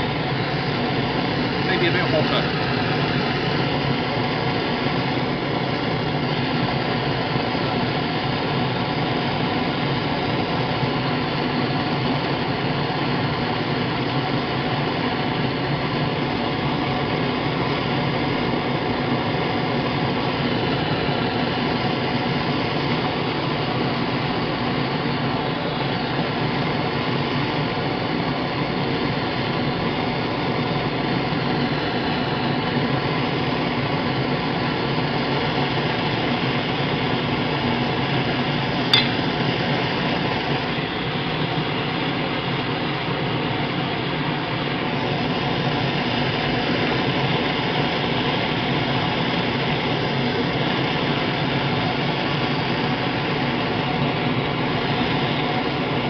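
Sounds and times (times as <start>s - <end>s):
propane torch hissing: 0.0s - 56.0s.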